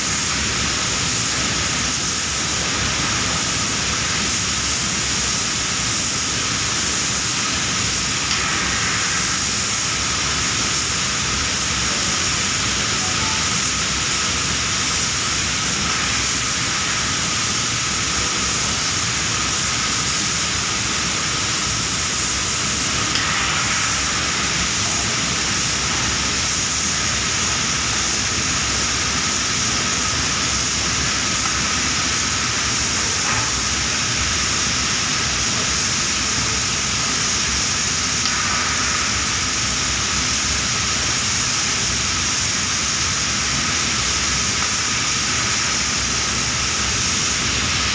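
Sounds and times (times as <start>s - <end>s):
spray gun hissing: 0.0s - 47.9s.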